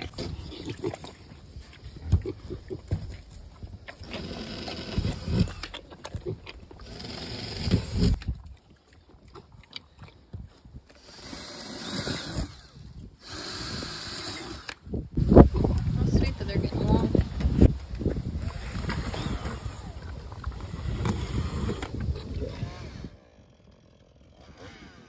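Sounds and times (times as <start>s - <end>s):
pigs slurping milk: 0.0s - 25.0s
pigs snuffling and grunting: 0.0s - 25.0s.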